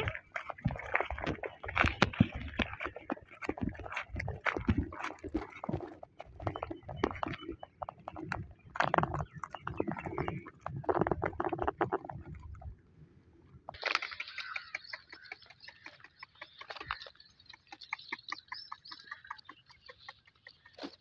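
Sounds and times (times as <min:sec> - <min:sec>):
birds chirping: 0:00.0 - 0:12.6, 0:13.8 - 0:21.0.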